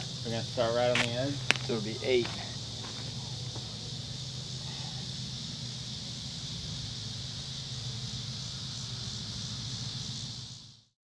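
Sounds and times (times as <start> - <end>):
low steady hum: 0.0 - 10.7
insect chorus buzzing: 0.0 - 11.0.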